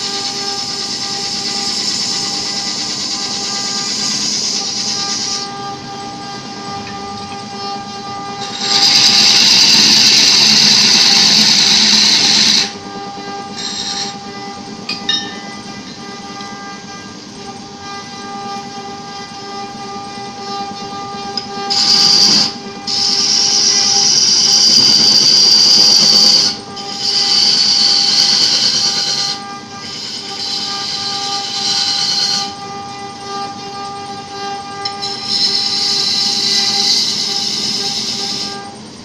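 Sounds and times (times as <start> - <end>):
gouge scraping spinning wood: 0.0 - 38.8
wood lathe motor hum: 0.0 - 39.0.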